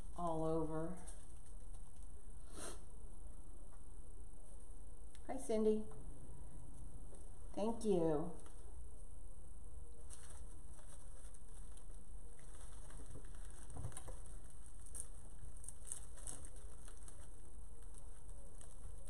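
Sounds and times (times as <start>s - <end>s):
artificial flower stems rustling: 0.0s - 5.7s, 6.6s - 9.2s, 9.8s - 19.0s
low background rumble and hiss: 0.0s - 19.0s.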